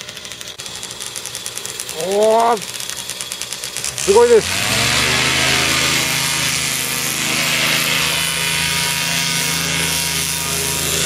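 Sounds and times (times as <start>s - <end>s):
paramotor engine buzzing: 0.0s - 11.0s.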